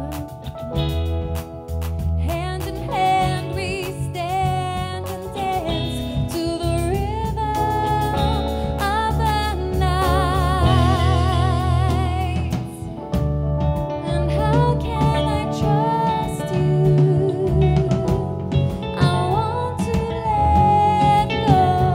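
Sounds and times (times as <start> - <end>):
band guitar: 0.0 - 21.9
heavy low end: 0.0 - 21.9
woman singing with vibrato: 2.2 - 12.8, 14.0 - 18.4, 19.0 - 21.9.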